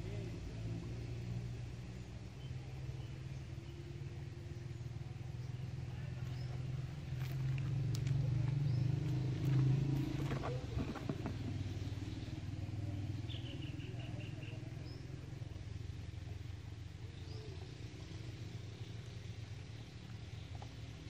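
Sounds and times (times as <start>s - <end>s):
low motor hum: 0.0s - 21.0s.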